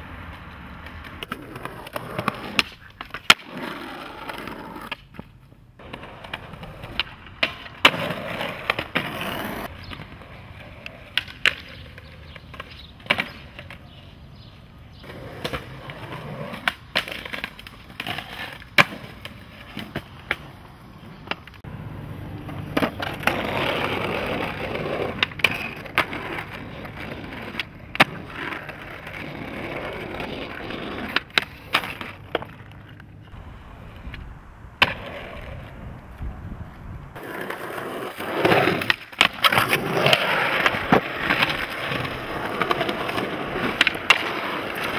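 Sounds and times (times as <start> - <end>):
skateboards rolling on concrete: 0.0 - 44.9
skateboard tail clacks: 0.2 - 14.0, 22.5 - 44.9.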